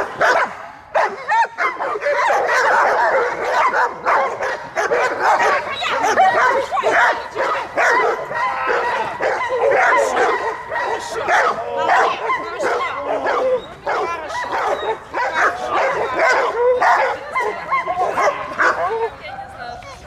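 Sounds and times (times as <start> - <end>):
dogs barking and yelping: 0.0 - 19.6.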